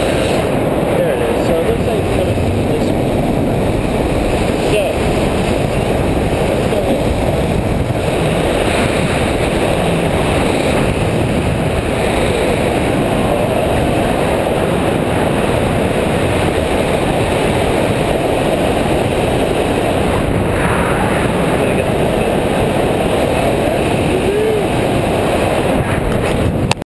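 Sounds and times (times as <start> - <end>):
wind roaring over microphone: 0.0 - 26.8.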